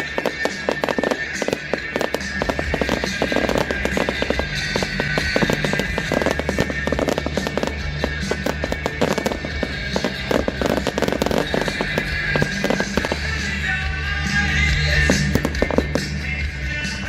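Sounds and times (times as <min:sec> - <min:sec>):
fireworks crackling and popping: 0:00.0 - 0:17.0
loud music: 0:00.0 - 0:17.0.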